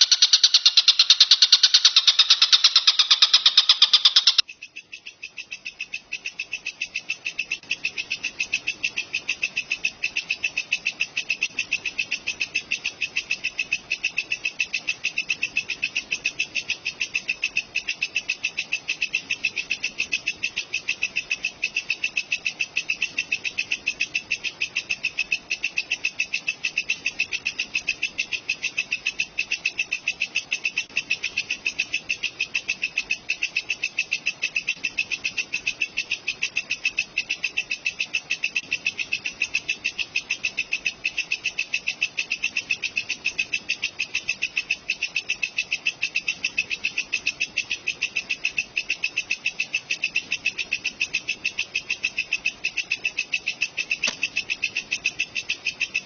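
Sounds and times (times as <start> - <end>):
katydid calling: 0.0 - 56.0
louder insect call: 0.0 - 56.0.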